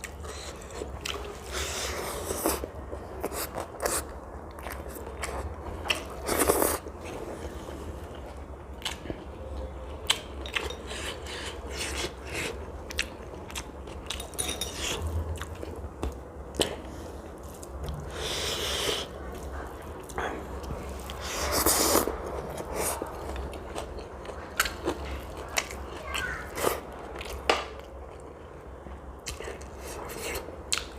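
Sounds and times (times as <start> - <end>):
person chewing and crunching: 0.0 - 7.6, 8.7 - 9.2, 10.0 - 30.9
steady low hum: 0.0 - 30.9.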